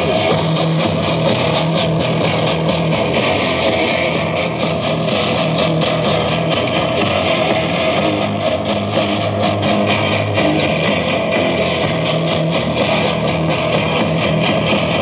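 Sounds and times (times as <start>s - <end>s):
heavy metal from boombox: 0.0s - 15.0s.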